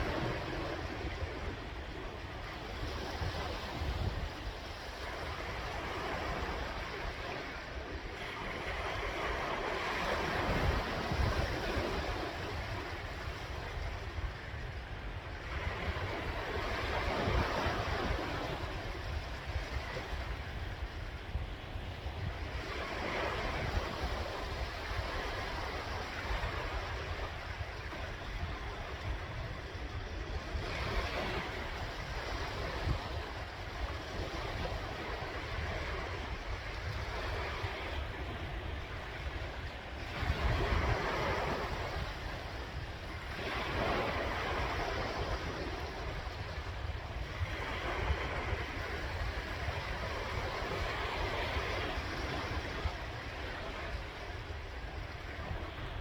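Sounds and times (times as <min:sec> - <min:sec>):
sea waves breaking on shore: 0:00.0 - 0:56.0
wind rumble on microphone: 0:00.0 - 0:56.0.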